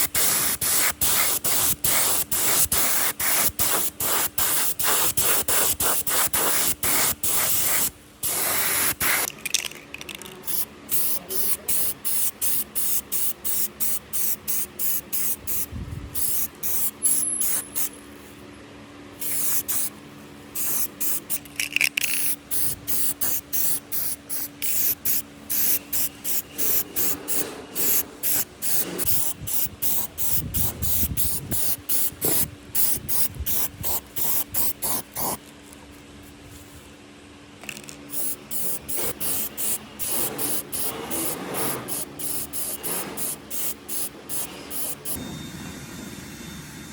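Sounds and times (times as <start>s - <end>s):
spray nozzle hissing bursts: 0.0s - 9.3s, 10.5s - 17.9s, 19.2s - 19.9s, 20.6s - 21.4s, 22.2s - 35.4s, 38.1s - 45.2s.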